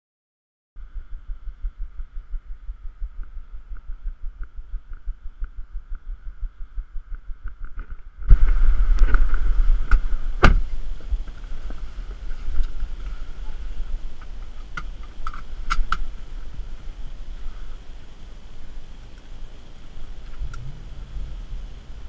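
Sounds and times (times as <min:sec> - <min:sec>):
car engine rumbling: 0:00.8 - 0:22.0.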